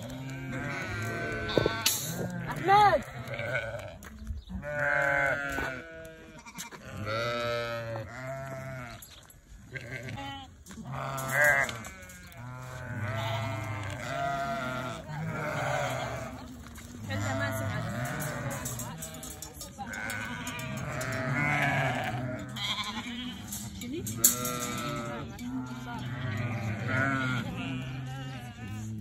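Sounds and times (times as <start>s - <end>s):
sheep and lambs bleating: 0.0s - 29.0s.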